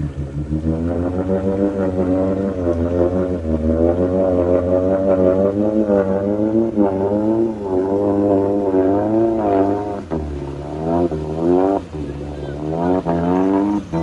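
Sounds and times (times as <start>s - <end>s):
engine revving hard: 0.0s - 14.0s.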